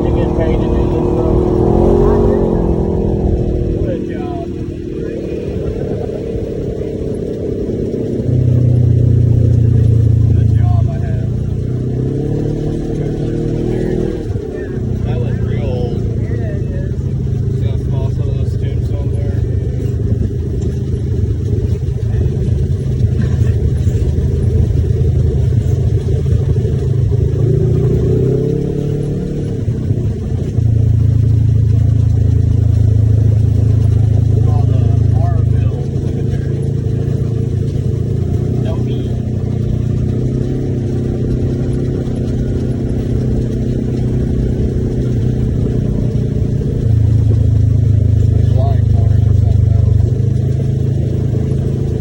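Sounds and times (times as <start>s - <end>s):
utv engine rumbling: 0.0s - 52.0s.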